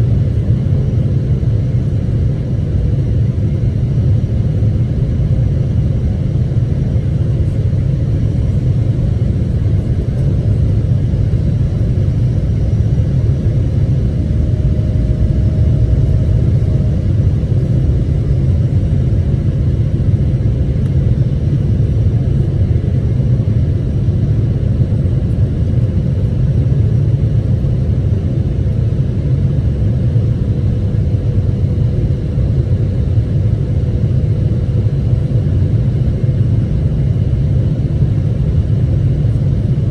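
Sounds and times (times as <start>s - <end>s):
aircraft engine low rumble: 0.0s - 39.9s.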